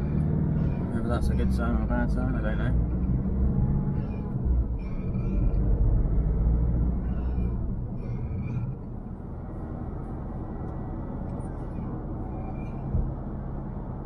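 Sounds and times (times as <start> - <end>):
car road and drivetrain rumble: 0.0 - 14.0.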